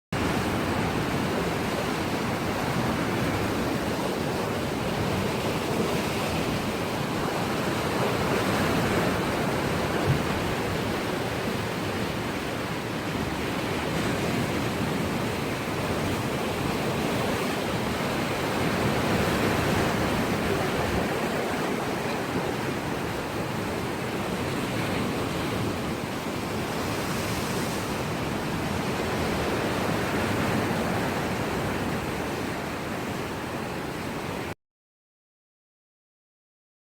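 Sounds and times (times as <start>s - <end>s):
waves washing against rocks: 0.2s - 34.4s.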